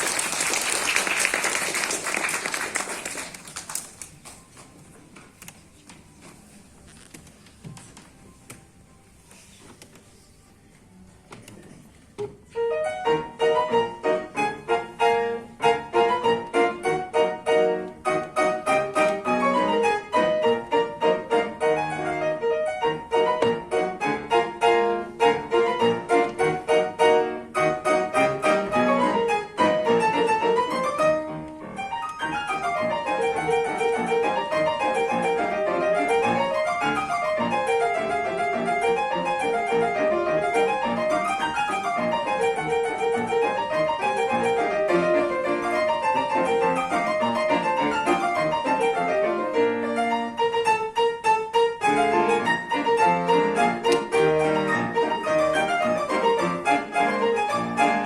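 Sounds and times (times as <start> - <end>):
piano playing: 0.0 - 5.1, 12.3 - 58.0.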